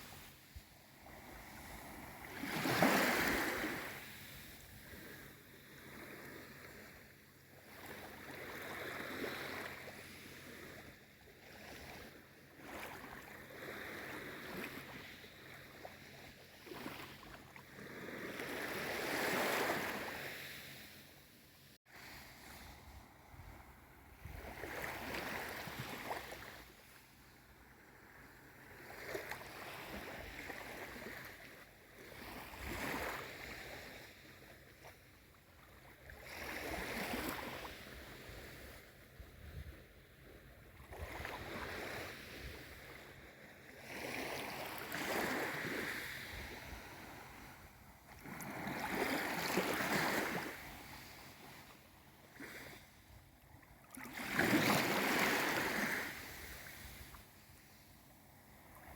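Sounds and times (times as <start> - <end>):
small waves lapping: 0.0 - 21.1, 21.9 - 58.9.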